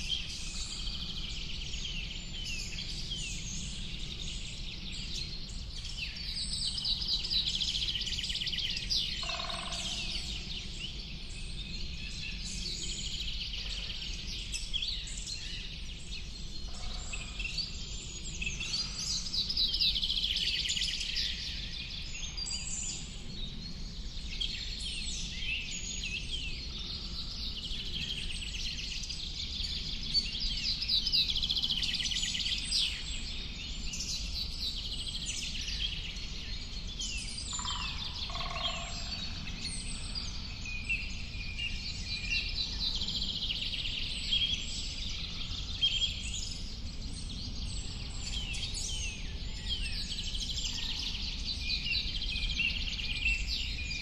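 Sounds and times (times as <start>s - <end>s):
birds singing and chirping: 0.0s - 54.0s.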